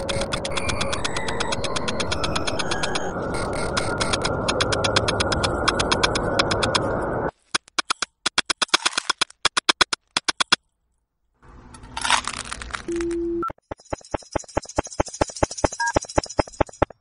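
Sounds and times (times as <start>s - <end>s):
sharp electronic clicks: 0.0s - 6.9s, 7.6s - 10.6s, 12.8s - 17.0s.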